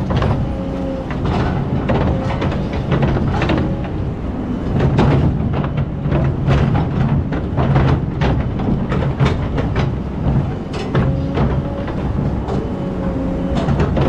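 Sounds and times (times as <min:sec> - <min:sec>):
diesel engine running: 0:00.0 - 0:14.0
machine knocks and clatter: 0:00.0 - 0:14.0.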